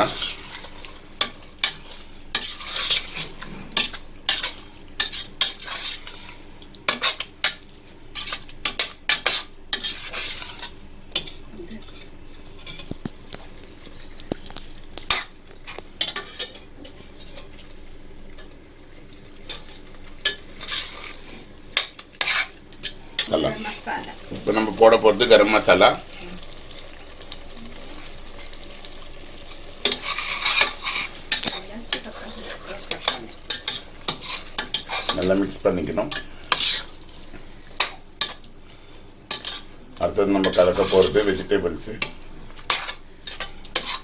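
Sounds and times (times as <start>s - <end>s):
spoon scraping metal pan: 0.0s - 7.6s, 8.2s - 13.0s, 13.9s - 17.5s, 19.5s - 25.5s, 29.8s - 38.5s, 39.3s - 44.0s
faint sizzle: 0.0s - 44.0s.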